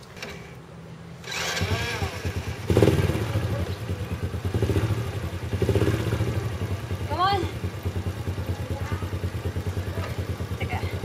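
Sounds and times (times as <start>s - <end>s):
motorcycle engine starting and running: 0.0s - 11.0s.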